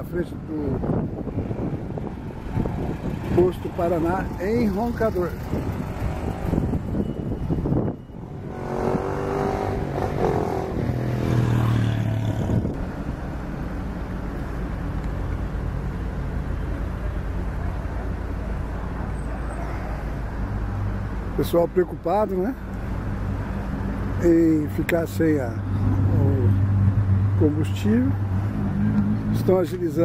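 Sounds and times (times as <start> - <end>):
car engines idling and pulling forward: 0.0 - 30.0
low traffic rumble: 0.0 - 30.0
nearer car engine: 0.0 - 30.0.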